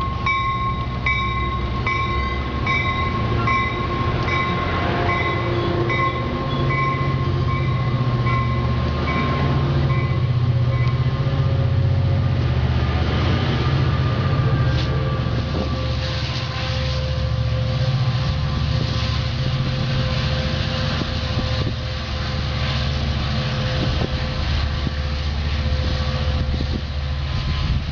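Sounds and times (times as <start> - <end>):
diesel locomotive engine drone: 0.0 - 27.9.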